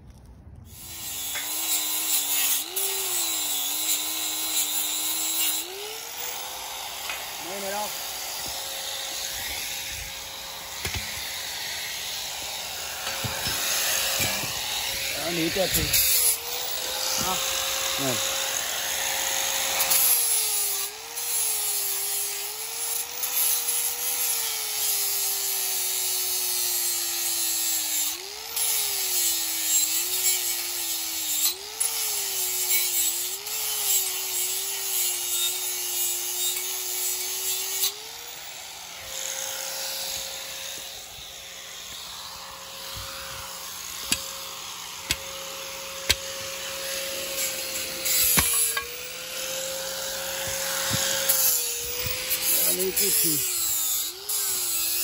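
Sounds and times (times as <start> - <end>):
power tool motor on metal: 0.7 - 55.0.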